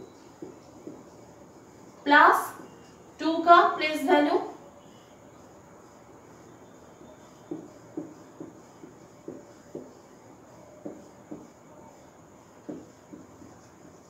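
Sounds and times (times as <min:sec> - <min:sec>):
marker writing on whiteboard: 0:00.0 - 0:14.0.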